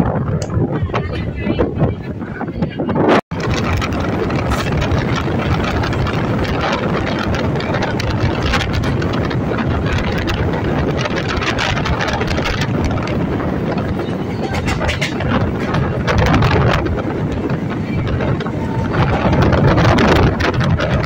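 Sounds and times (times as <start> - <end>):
train rumble and rattle: 0.0 - 21.0
wind buffeting microphone: 0.0 - 21.0.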